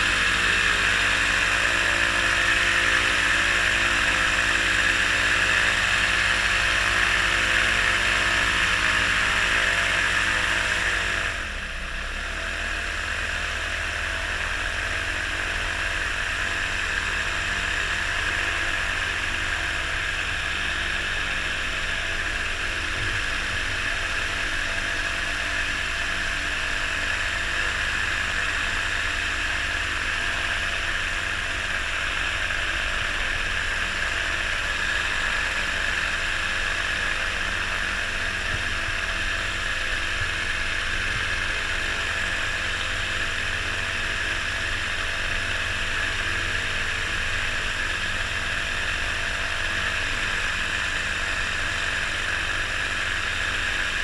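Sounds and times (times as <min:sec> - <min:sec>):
microlight engine and propeller: 0:00.0 - 0:54.0.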